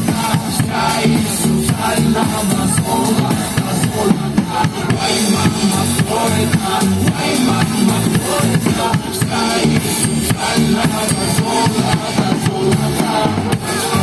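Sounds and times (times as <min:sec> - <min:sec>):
drum kit playing: 0:00.0 - 0:14.0
loud recorded dance music: 0:00.0 - 0:14.0.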